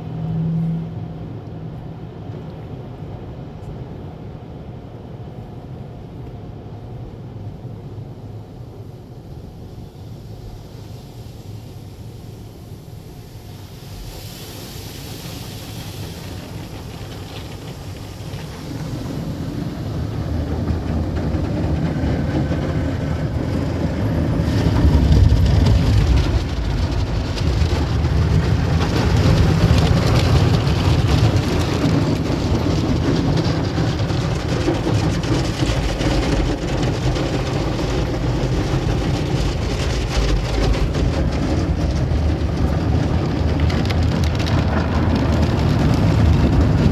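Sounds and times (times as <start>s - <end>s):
car wash water spray: 8.3s - 46.9s.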